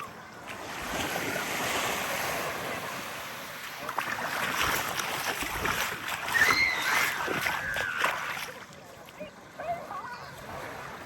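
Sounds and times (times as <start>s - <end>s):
faint distant voices: 0.0s - 11.0s
small waves lapping on sand: 0.0s - 11.0s.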